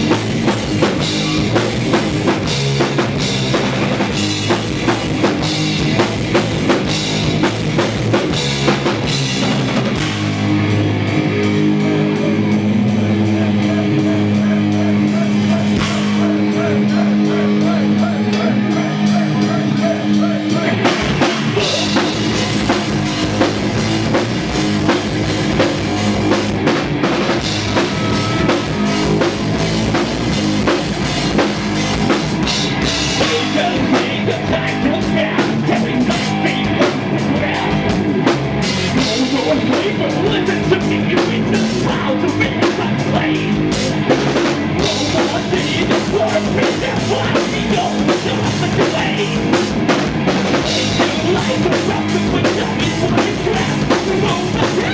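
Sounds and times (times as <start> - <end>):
bass drum: 0.0 - 54.9
rock band playing live: 0.0 - 54.9.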